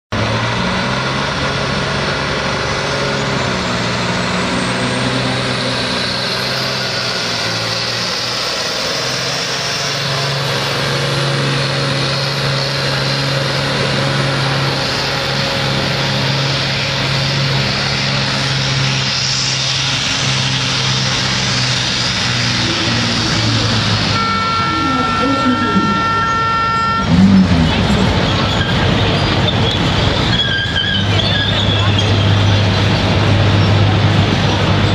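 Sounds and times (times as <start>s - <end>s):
tractor diesel engine under full load: 0.1s - 34.9s.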